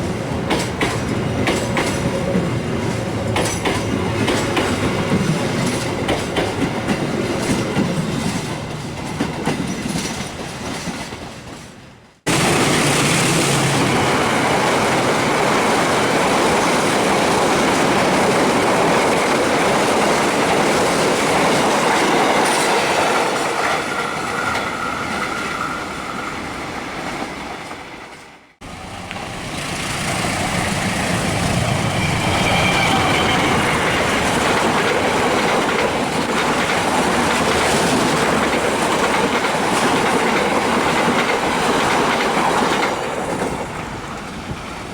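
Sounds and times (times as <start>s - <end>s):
train wheels clattering: 0.0s - 25.9s, 27.0s - 44.7s.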